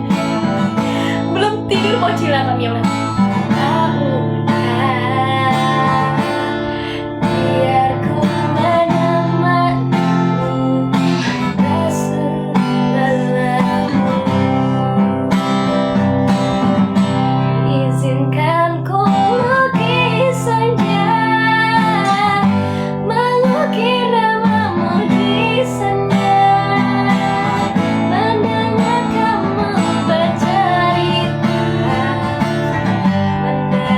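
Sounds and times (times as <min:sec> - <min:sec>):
woman singing: 0:00.0 - 0:16.7, 0:17.6 - 0:33.9
acoustic guitar strumming chords: 0:00.0 - 0:33.9.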